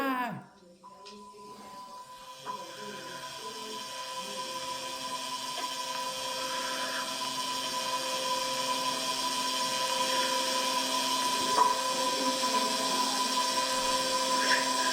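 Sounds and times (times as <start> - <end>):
machine hum with high whine: 0.6 - 14.9.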